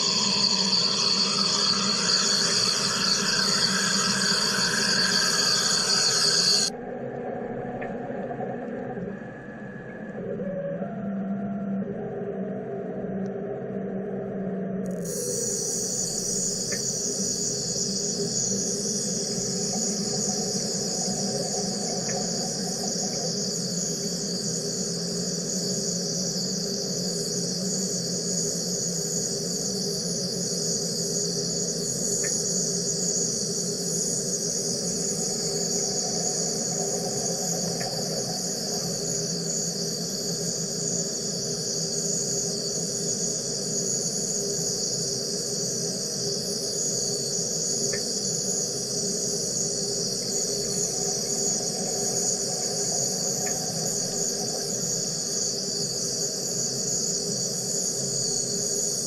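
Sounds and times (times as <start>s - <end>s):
high-pitched machine hiss: 0.0s - 6.7s, 14.9s - 59.0s.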